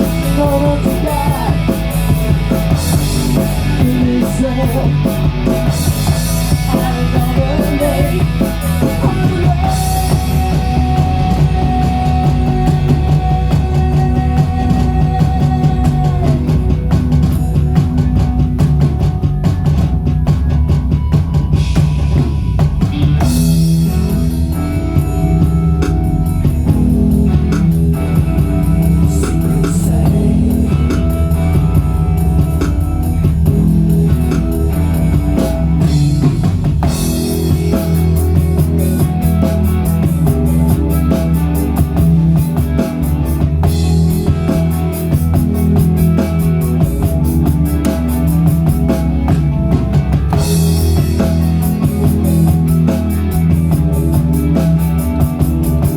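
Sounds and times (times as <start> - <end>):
instrumental rock band playing: 0.0 - 55.9.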